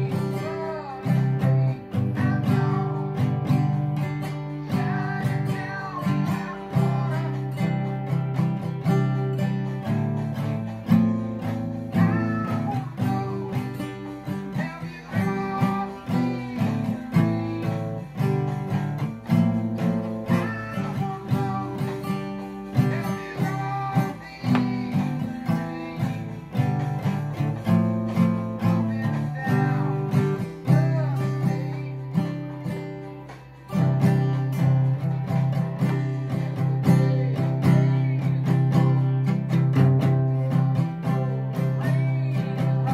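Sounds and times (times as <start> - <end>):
acoustic guitar strumming chords: 0.0 - 42.9
man singing: 0.0 - 42.9.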